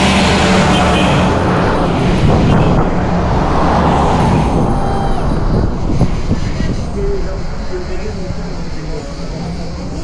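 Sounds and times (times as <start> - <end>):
vehicles passing: 0.0 - 10.0.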